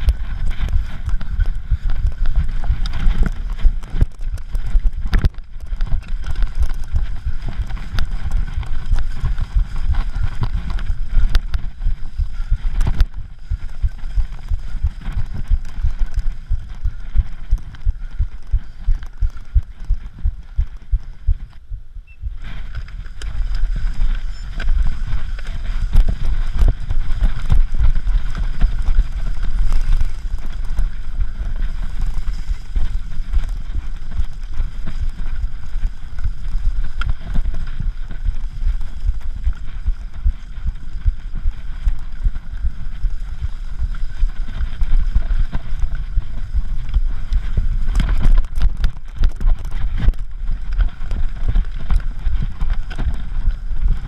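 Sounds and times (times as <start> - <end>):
bike rattling over bumpy grass: 0.0 - 54.0
wind buffeting microphone: 0.0 - 54.0.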